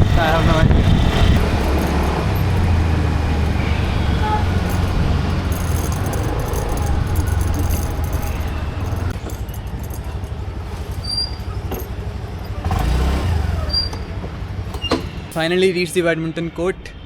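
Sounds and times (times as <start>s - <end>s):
scooter engine rumble: 0.0s - 15.8s
road noise: 0.0s - 17.0s.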